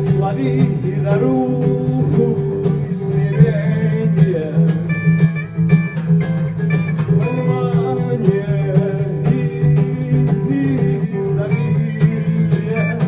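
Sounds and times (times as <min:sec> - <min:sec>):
steady drum beat: 0:00.0 - 0:13.0
strummed guitar: 0:00.0 - 0:13.0.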